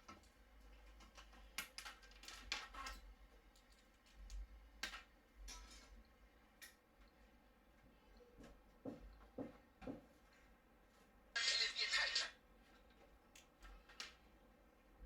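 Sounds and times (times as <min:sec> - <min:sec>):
faint low hum: 0:00.1 - 0:15.0.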